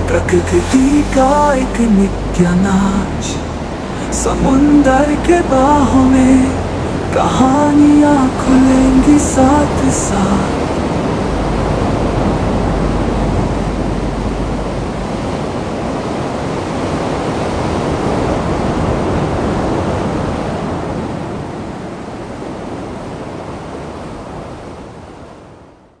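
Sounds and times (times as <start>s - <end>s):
ocean waves rushing: 0.0s - 25.6s.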